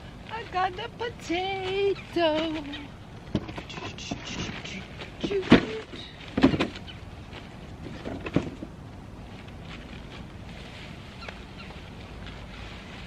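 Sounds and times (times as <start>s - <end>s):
rustles and knocks in soil: 0.0s - 13.0s.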